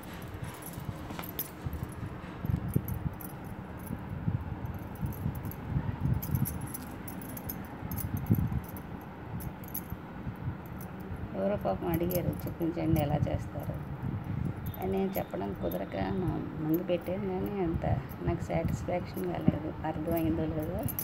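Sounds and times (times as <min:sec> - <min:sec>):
glass bangles clinking: 0:00.0 - 0:21.0.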